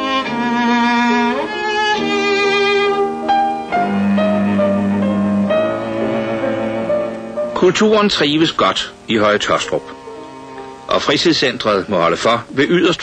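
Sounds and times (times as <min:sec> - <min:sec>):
cello bowed slow melody: 0:00.0 - 0:11.4.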